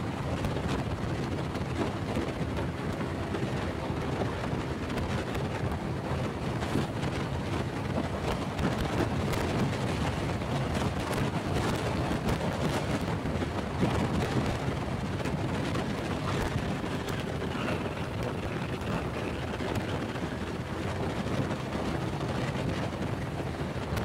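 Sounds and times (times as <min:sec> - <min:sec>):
road noise: 0:00.0 - 0:24.0
wind buffeting microphone: 0:00.0 - 0:24.0.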